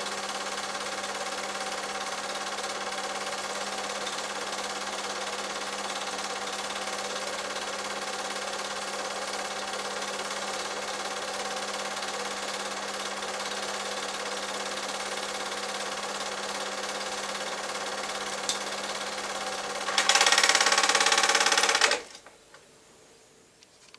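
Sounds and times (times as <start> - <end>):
film projector whirring: 0.0 - 22.4.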